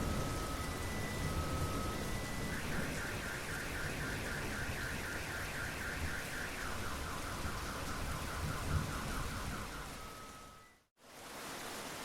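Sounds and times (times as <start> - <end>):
steady rain: 0.0 - 12.0
car alarm warbling: 0.3 - 10.9.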